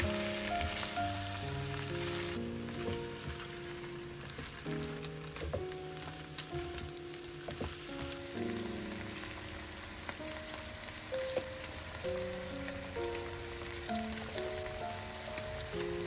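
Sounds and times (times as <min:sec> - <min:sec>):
cabbage sizzling in a wok: 0:00.0 - 0:16.0
soft background music: 0:00.0 - 0:16.0.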